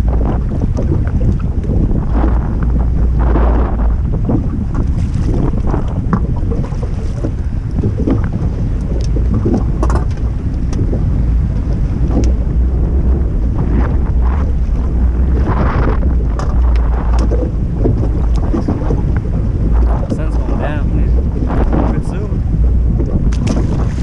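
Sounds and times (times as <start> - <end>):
water splashing against boat: 0.0 - 24.0
wind buffeting microphone: 0.0 - 24.0.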